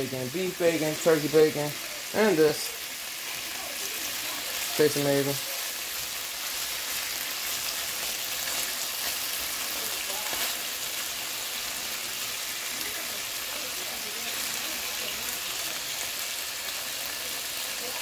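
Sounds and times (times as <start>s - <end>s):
bacon sizzling in a frying pan: 0.0s - 18.0s.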